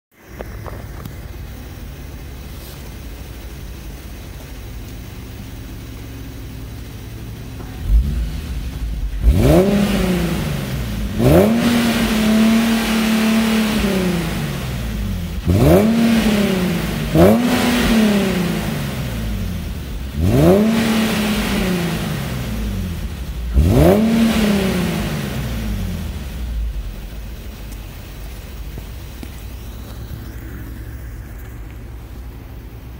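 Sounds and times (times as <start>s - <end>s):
car engine idling and revving: 0.1s - 32.9s.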